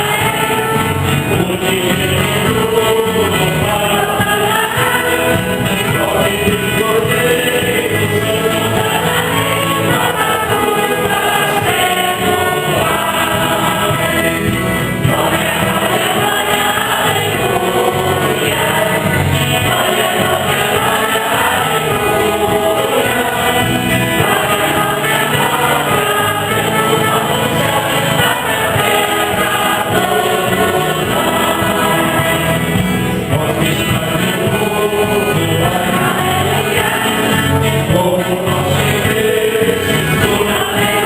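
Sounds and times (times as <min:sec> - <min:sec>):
church choir singing a hymn: 0:00.0 - 0:41.0
instrumental accompaniment: 0:00.0 - 0:41.0.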